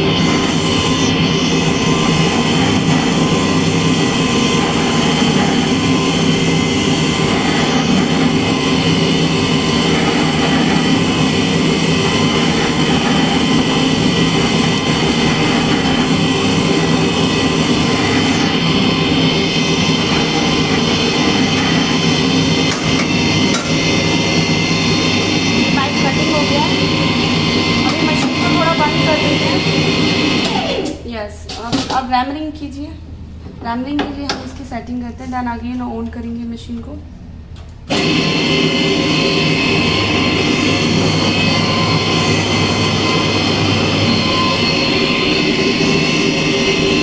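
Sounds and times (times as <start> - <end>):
wheel cutter cutting pipe: 0.0 - 31.0, 37.9 - 47.0
pipe threading machine running: 0.0 - 32.0, 37.6 - 47.0.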